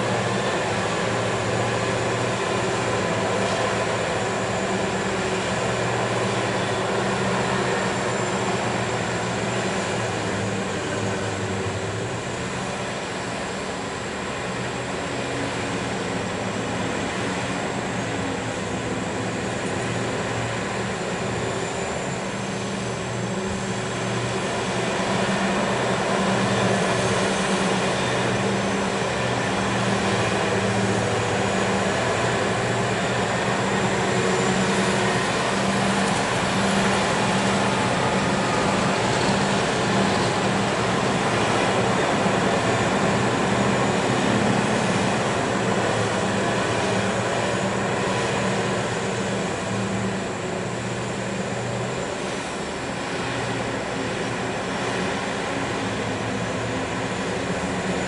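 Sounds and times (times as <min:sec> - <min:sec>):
excavator engine droning: 0:00.0 - 0:58.0.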